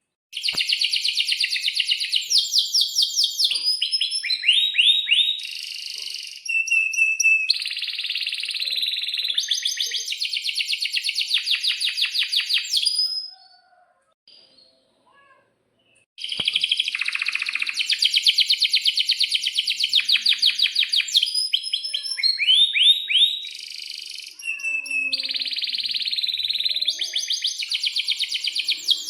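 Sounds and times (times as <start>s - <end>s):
canary singing chirps and trills: 0.4s - 29.0s.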